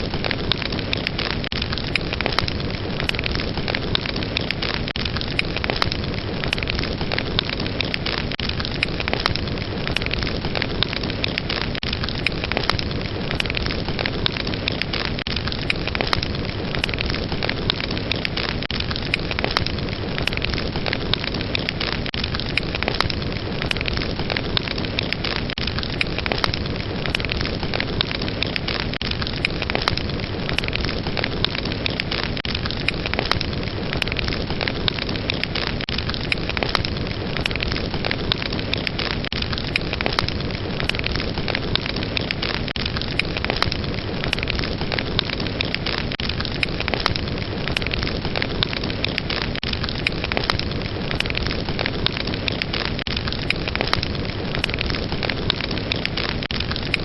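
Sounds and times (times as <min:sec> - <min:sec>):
fire burning: 0:00.0 - 0:57.0
wood crackles and pops: 0:00.0 - 0:57.0.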